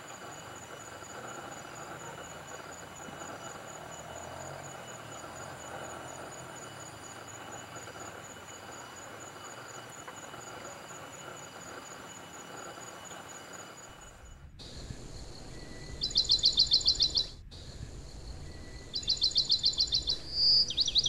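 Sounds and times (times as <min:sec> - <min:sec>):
insects trilling: 0:00.0 - 0:21.0
soft outdoor hiss: 0:00.0 - 0:21.0.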